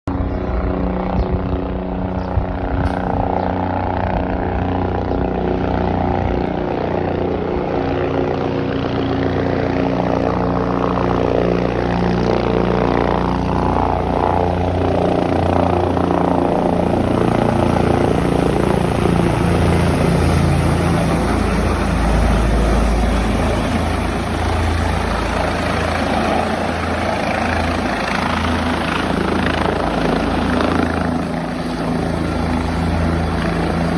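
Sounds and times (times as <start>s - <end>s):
helicopter rotor and engine drone: 0.1s - 33.9s.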